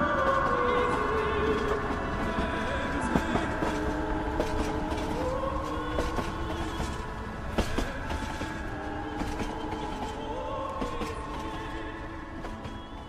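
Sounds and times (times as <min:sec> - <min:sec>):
sharp clicks of wheels: 0:00.0 - 0:13.0
train rumbling on rails: 0:00.0 - 0:13.0.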